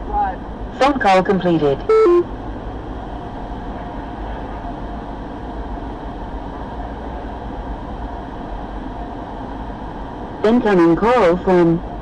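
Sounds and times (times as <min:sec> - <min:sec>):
low rumble and hiss in car cabin: 0:00.0 - 0:12.0.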